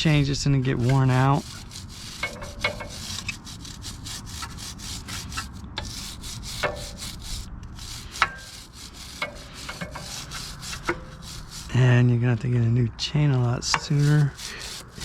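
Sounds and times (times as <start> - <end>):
stiff brush scrubbing chain: 0.0 - 12.0, 13.4 - 15.0.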